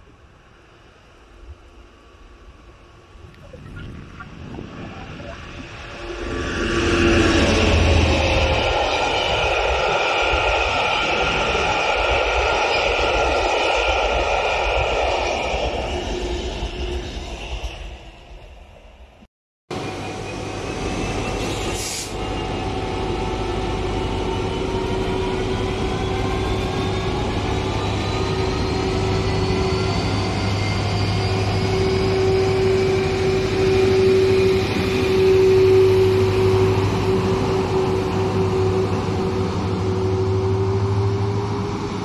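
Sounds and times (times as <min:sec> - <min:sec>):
diesel locomotive accelerating: 0:00.0 - 0:42.0.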